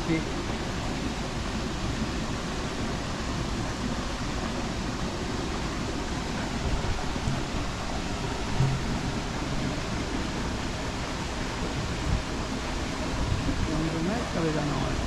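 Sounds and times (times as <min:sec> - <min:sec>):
steady rushing noise: 0:00.0 - 0:15.0
unsteady low rumble: 0:00.0 - 0:15.0.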